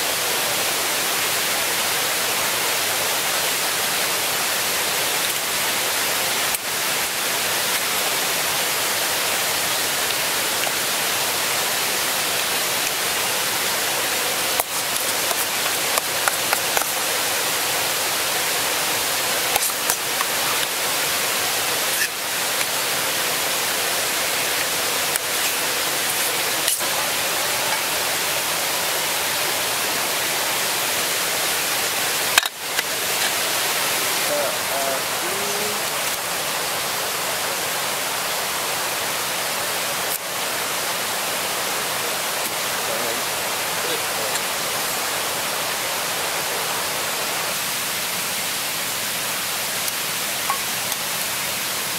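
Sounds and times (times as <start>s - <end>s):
stream rushing: 0.0s - 51.9s.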